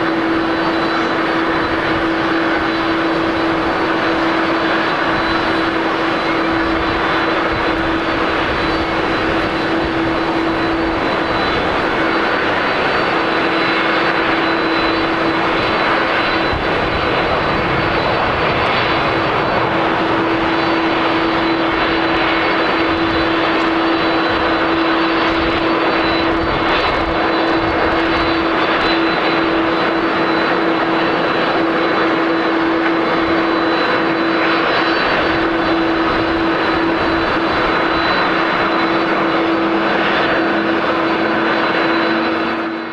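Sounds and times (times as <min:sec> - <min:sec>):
jet engines rushing: 0:00.0 - 0:42.9.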